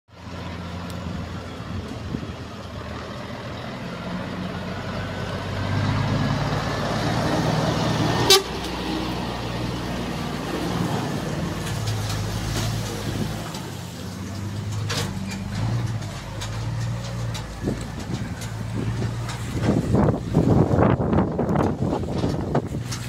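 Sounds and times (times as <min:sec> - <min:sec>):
truck engine passing: 0:00.1 - 0:23.0.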